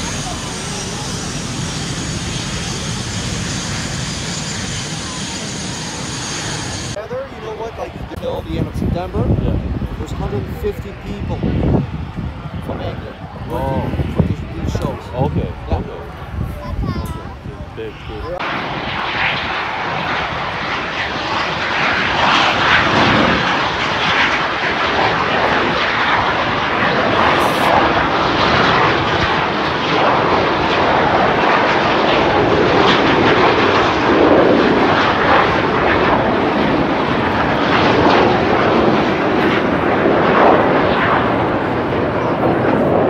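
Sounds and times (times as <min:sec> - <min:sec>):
jets flying low pass: 0:00.0 - 0:43.0.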